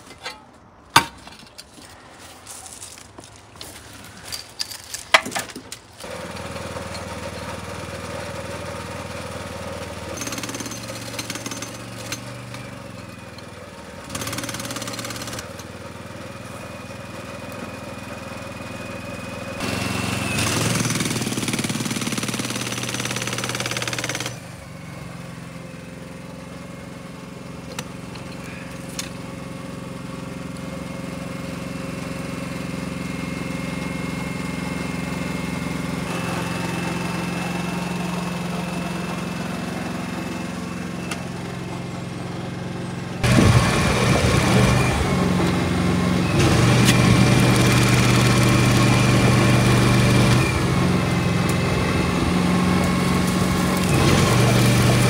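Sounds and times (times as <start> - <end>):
small engine running: 6.0 - 55.0.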